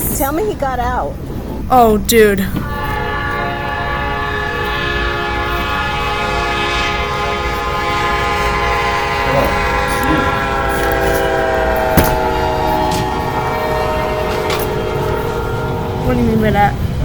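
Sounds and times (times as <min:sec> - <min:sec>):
moving train rumble: 0:00.0 - 0:17.0
locomotive air horn blast: 0:02.5 - 0:17.0.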